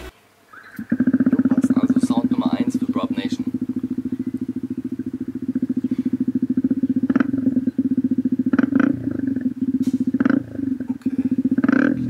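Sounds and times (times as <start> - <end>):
motorcycle throttle blips: 0.0 - 12.0
small motorcycle engine idling: 0.0 - 12.0.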